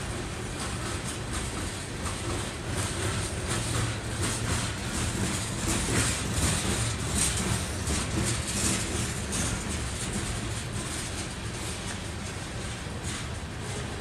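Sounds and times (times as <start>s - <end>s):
freight train cars rolling past: 0.0s - 14.0s.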